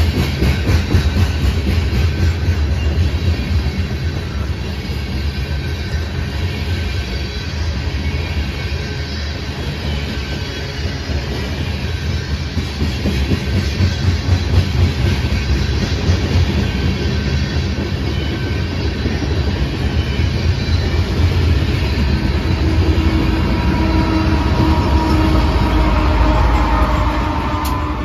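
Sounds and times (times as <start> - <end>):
diesel locomotive engine hum: 0.0 - 28.0
freight train rumbling past: 0.0 - 28.0.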